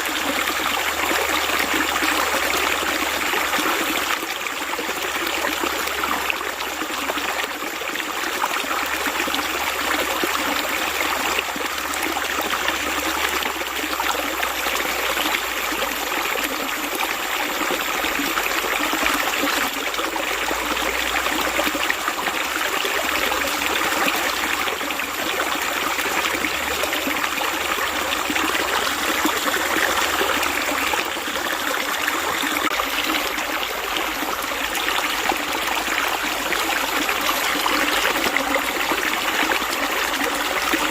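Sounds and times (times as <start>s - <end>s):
water flowing: 0.0s - 40.9s.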